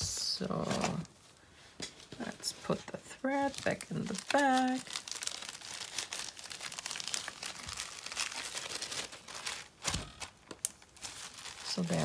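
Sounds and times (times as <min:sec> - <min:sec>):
plastic bag crinkling: 0:02.2 - 0:12.0.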